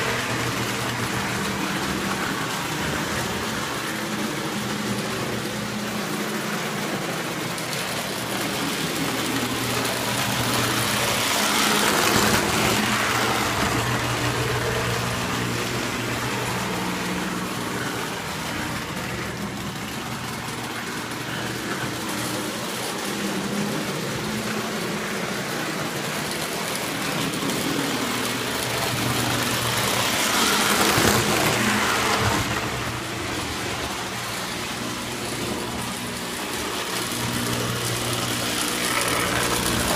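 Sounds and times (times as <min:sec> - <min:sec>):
model train motor hum: 0:00.0 - 0:39.9
rolling wheel noise: 0:00.0 - 0:39.9.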